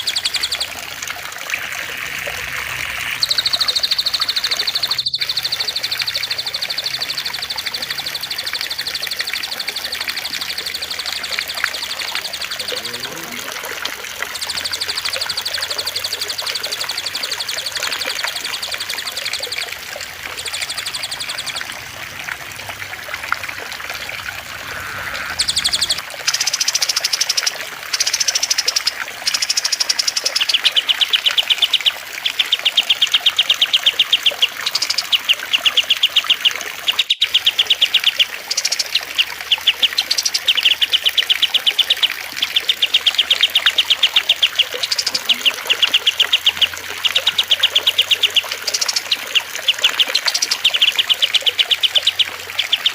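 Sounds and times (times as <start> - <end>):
songbirds trilling and whistling: 0.0 - 52.9
trickling water: 0.0 - 52.9.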